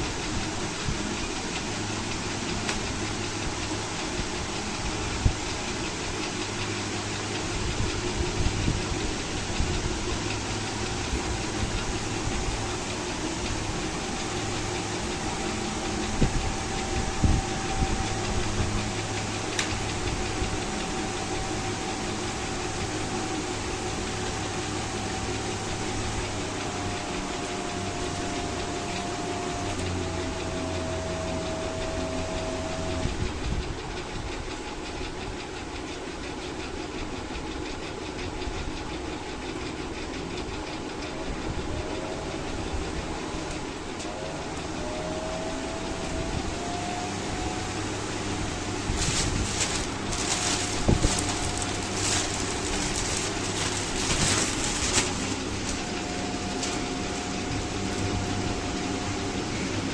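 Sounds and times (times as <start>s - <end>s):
electric fan whirring: 0.0s - 59.9s.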